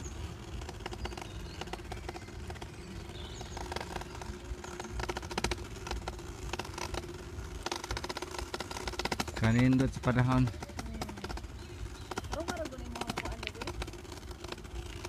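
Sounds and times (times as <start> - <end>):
bicycle rattling clicks: 0.0 - 15.0
bicycle tyres rumbling: 0.0 - 15.0.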